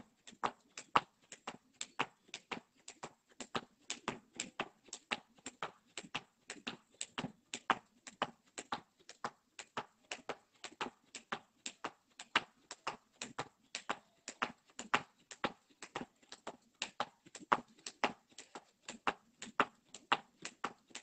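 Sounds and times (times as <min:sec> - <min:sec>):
skipping rope slapping paving: 0:00.0 - 0:21.0.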